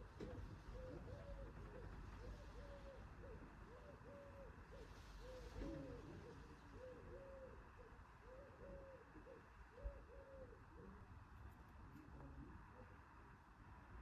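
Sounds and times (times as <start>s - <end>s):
bird cooing: 0.0s - 11.2s, 12.0s - 13.1s.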